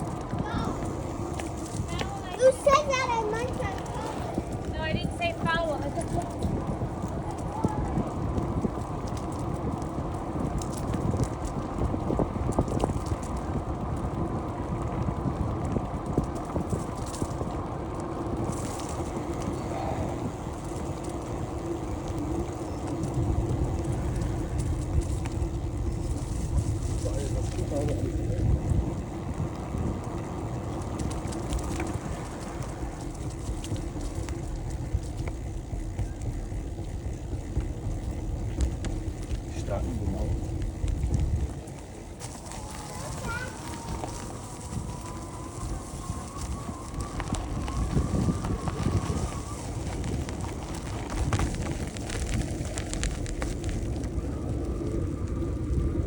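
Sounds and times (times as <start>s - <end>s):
bicycle tyre noise: 0.0s - 56.0s
small rattles and clicks: 0.0s - 56.0s
wind buffeting microphone: 0.0s - 56.0s.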